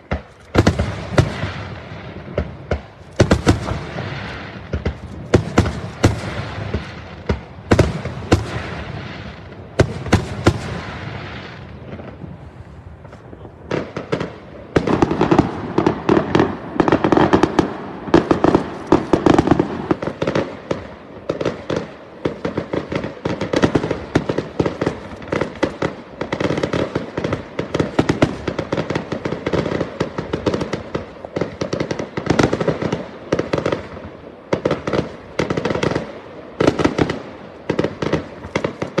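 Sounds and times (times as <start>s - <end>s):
rapid firework crackle: 0.0s - 39.0s.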